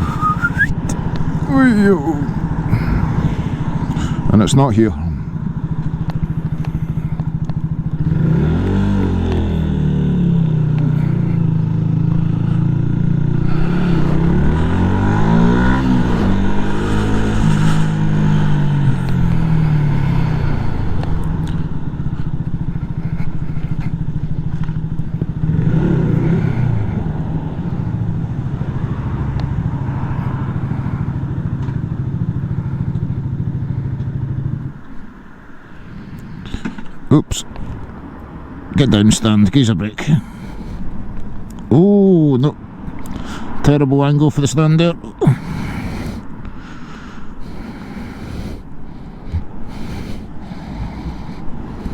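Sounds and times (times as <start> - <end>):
motorcycle engine revving: 0.0 - 43.6, 45.2 - 51.9.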